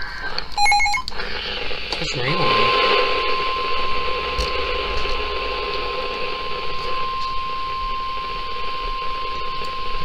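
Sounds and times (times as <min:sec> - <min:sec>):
radio hiss: 0:00.0 - 0:10.0
steady high alarm tone: 0:00.6 - 0:01.1, 0:02.2 - 0:10.0.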